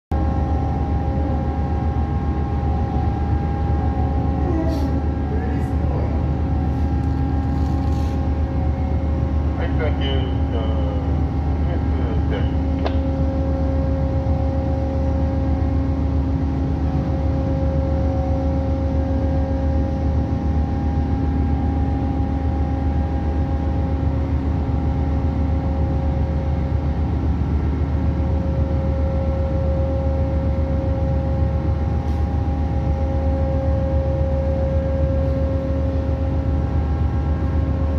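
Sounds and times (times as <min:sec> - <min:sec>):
low machinery drone: 0:00.1 - 0:37.9.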